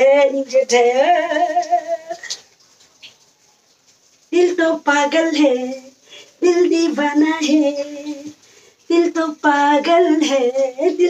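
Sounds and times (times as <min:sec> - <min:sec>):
woman singing: 0:00.0 - 0:02.2, 0:04.3 - 0:11.0.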